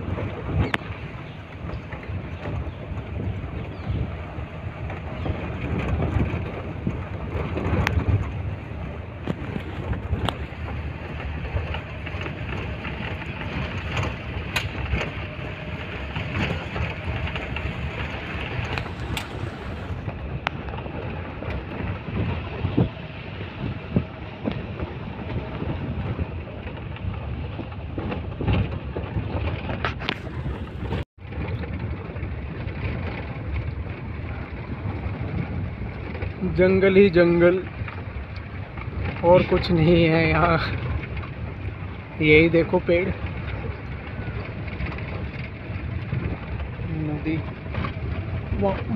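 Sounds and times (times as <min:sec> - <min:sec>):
vehicle engine and tyres rumbling: 0:00.0 - 0:48.9
wind noise on microphone: 0:00.0 - 0:48.9.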